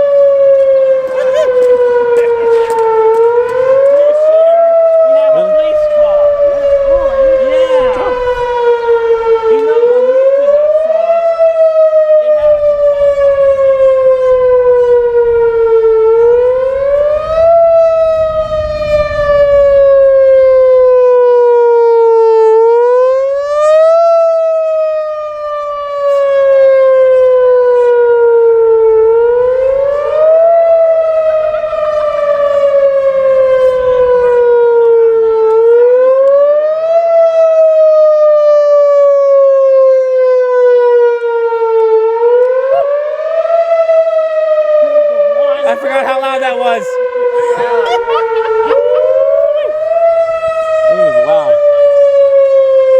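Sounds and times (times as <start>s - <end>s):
warning siren wailing: 0.0s - 52.9s.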